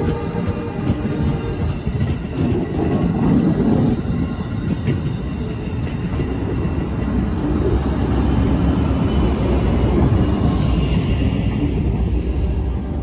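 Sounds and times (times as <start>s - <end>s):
diesel locomotive passing: 0.0s - 13.0s
train wheels rumbling over rails: 0.0s - 13.0s.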